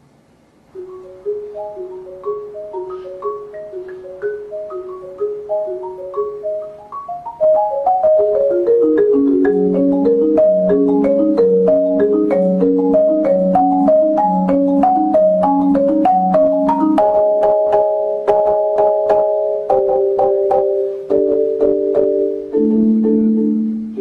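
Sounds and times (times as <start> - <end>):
marimba music: 0.7 - 24.0.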